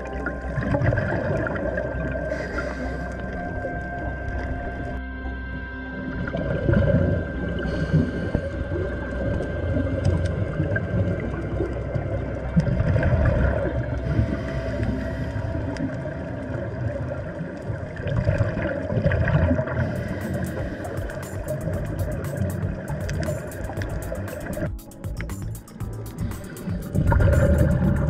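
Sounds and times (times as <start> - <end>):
underwater bubbling of regulator: 0.0 - 28.0.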